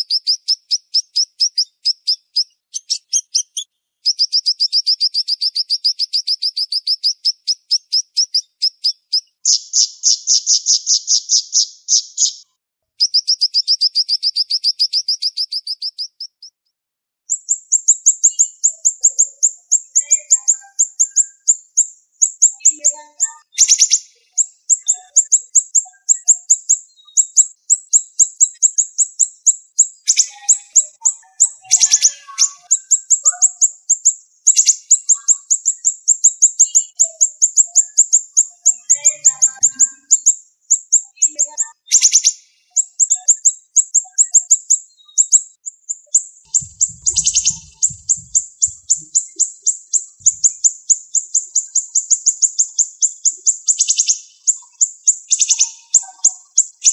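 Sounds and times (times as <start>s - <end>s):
songbird chirping rapidly: 0.0s - 16.6s, 17.3s - 56.9s.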